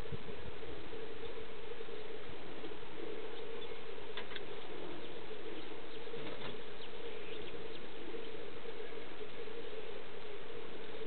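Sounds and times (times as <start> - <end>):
buzzing hum: 0.0 - 11.0.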